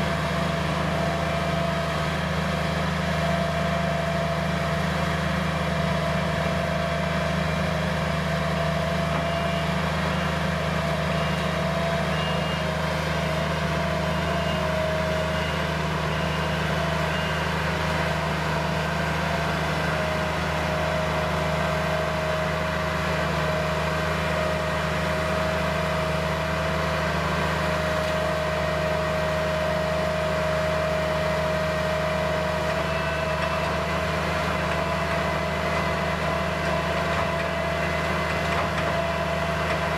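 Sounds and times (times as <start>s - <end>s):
skid-steer engine running: 0.0s - 39.9s.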